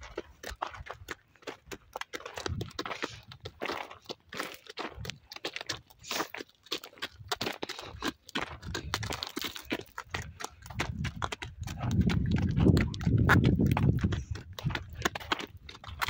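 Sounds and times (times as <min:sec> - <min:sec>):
hooves clopping on gravel: 0:00.0 - 0:16.0.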